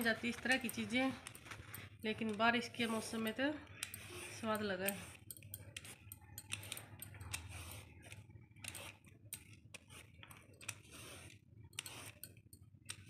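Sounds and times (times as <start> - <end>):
peeler scraping gourd skin: 0.0 - 13.0.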